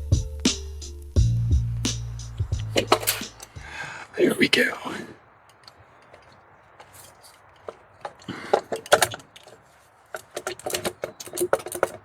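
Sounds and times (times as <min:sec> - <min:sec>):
tools and engine parts clicking: 0:02.2 - 0:12.0.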